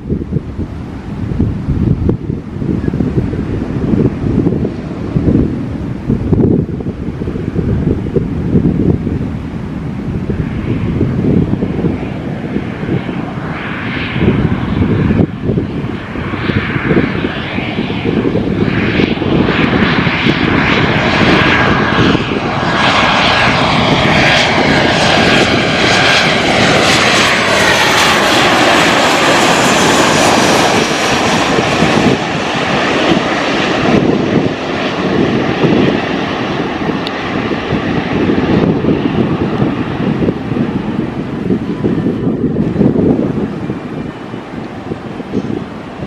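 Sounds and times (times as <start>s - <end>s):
jet airliner engines passing: 0.0s - 46.0s.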